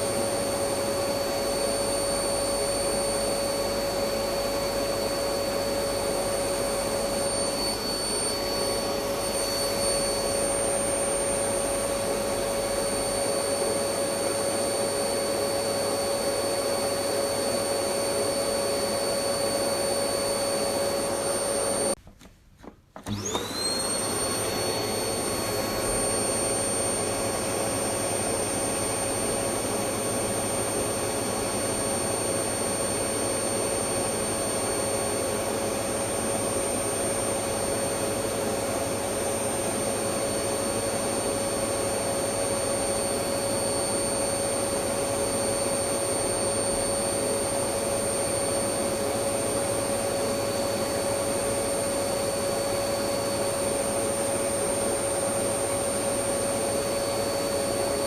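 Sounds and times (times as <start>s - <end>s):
vacuum cleaner running with whine: 0.0s - 22.0s, 23.0s - 58.0s.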